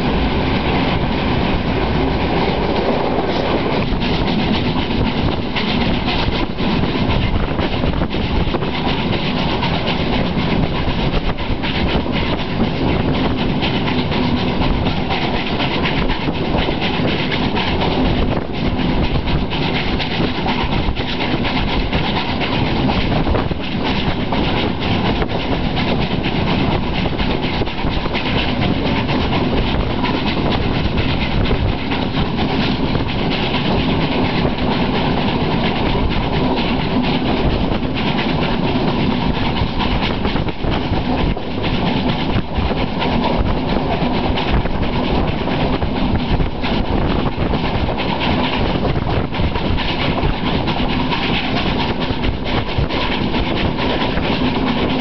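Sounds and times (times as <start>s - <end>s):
train wheels on rail clickety-clack: 0.0s - 55.0s
wind rushing: 0.0s - 55.0s.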